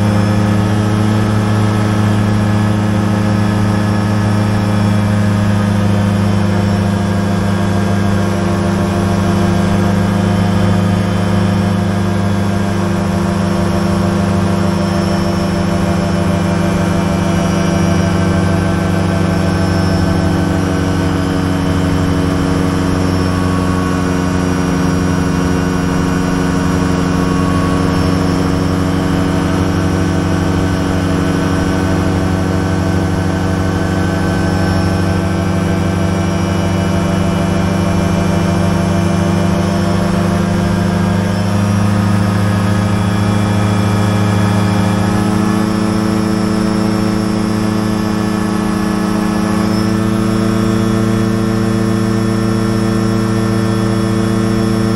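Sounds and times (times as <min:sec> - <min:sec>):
aircraft engine and propeller droning: 0:00.0 - 0:54.9.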